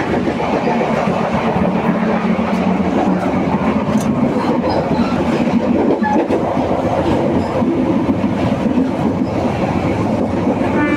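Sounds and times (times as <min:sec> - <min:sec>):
train rumbling along track: 0:00.0 - 0:10.9.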